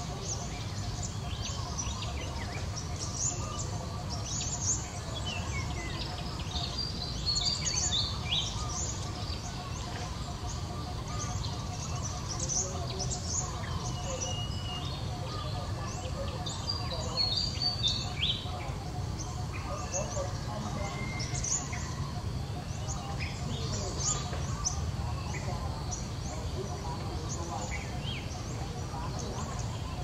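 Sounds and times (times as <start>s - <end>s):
wild birds chirping and calling: 0.0s - 30.0s.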